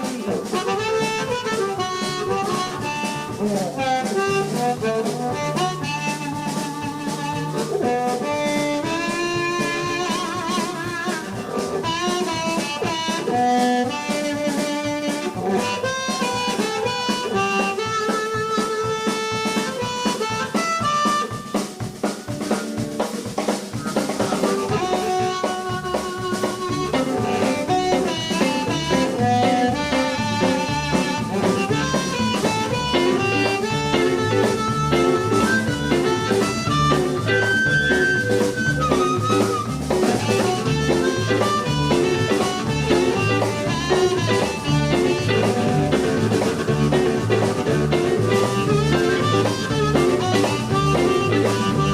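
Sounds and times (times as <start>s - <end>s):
bass line: 0.0s - 22.9s, 23.7s - 51.9s
drum kit beat: 0.0s - 51.9s
harmonica melody: 0.0s - 51.9s.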